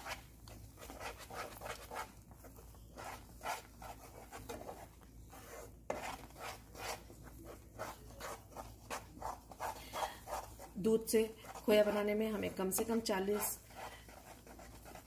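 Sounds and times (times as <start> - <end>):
wooden spatula scraping a pan: 0.0 - 15.0.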